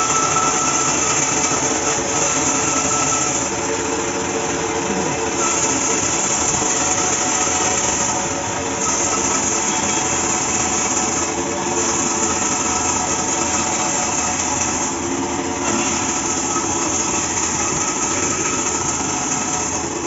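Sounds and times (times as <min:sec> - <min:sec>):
bandsaw machine hum: 0:00.0 - 0:20.0.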